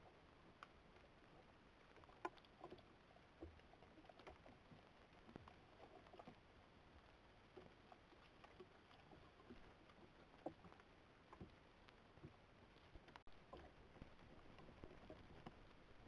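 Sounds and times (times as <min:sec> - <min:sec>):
faint ticks and rustles: 0:00.0 - 0:16.0.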